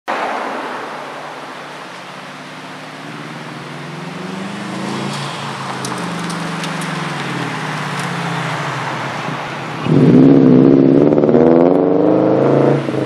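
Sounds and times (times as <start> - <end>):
road and wind noise: 0.1 - 13.0.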